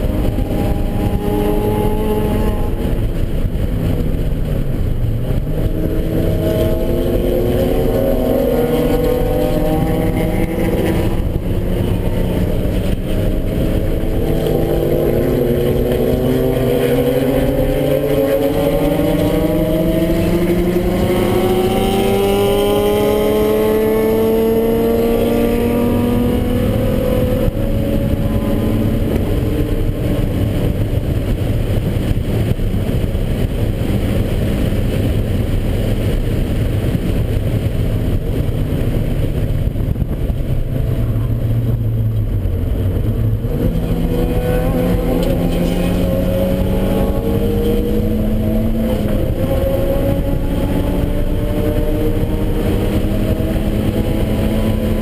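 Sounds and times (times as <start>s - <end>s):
car engine revving: 0.0s - 55.0s
road noise: 0.0s - 55.0s
wind noise: 0.0s - 55.0s.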